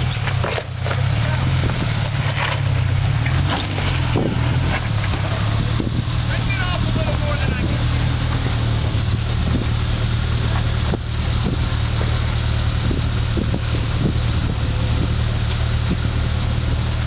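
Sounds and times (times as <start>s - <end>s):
engine idling: 0.0s - 17.0s
wind rumbling on microphone: 0.0s - 17.0s.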